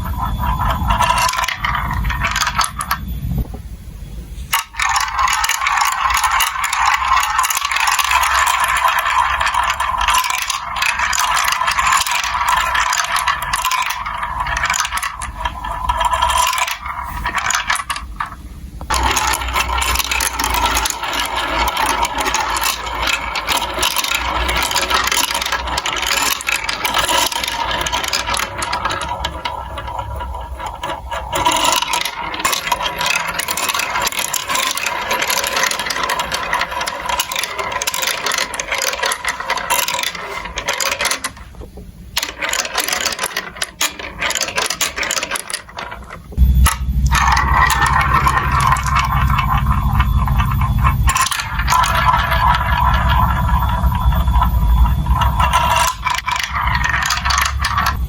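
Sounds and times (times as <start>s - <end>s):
marbles rattling along plastic tracks: 0.0s - 3.1s, 4.5s - 58.0s.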